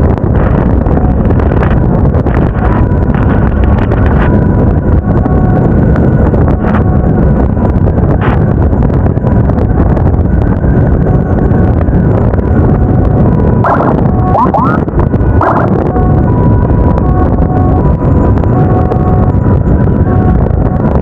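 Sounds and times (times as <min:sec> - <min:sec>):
faint steady tones: 0:00.0 - 0:21.0
road noise: 0:00.0 - 0:21.0
wind buffeting microphone: 0:00.0 - 0:21.0.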